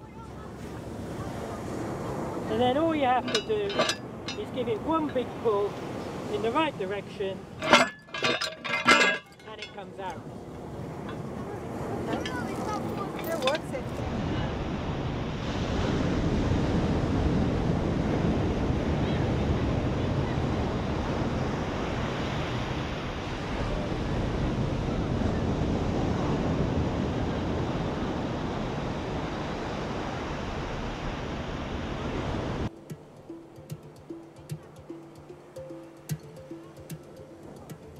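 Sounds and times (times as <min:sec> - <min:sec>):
wind rumbling on microphone: 0:00.0 - 0:32.7
small waves washing ashore: 0:00.0 - 0:37.9.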